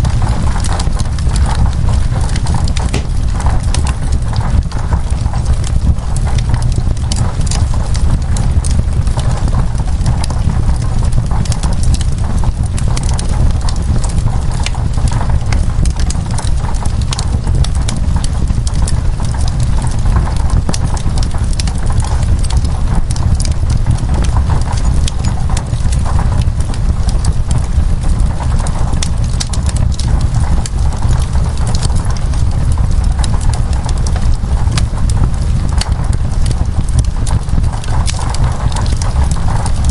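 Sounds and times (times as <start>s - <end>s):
rain on window glass: 0.0s - 39.9s
wood fire crackling and popping: 0.0s - 39.9s.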